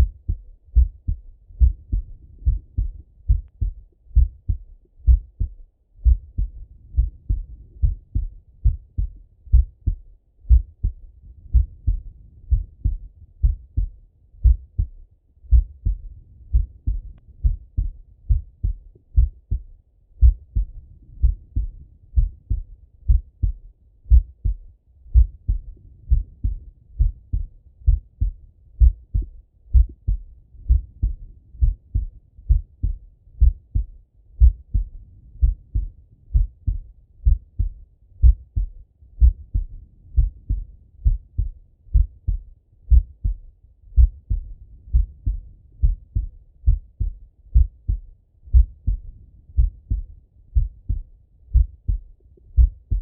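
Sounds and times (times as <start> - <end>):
heartbeat through stethoscope: 0.0 - 53.0.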